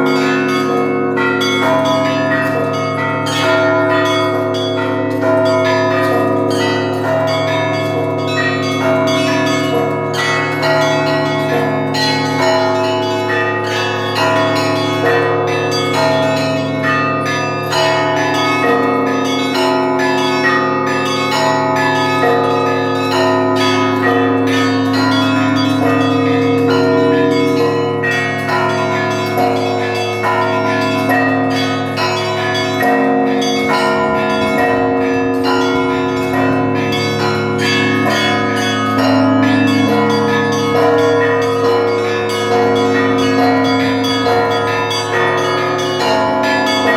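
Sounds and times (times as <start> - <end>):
large bells humming: 0.0 - 46.9.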